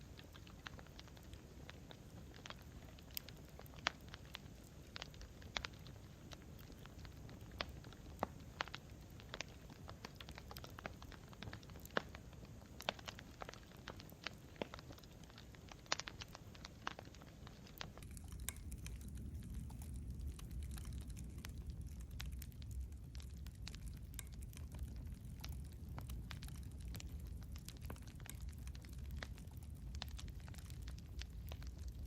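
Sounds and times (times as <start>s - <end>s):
campfire snaps and pops: 0.0s - 32.0s
low rumble of burning wood: 0.0s - 32.0s.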